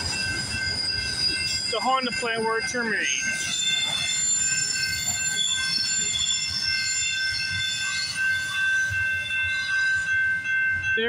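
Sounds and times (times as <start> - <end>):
train wheels squealing: 0.0 - 10.6
train rumble: 0.0 - 11.0.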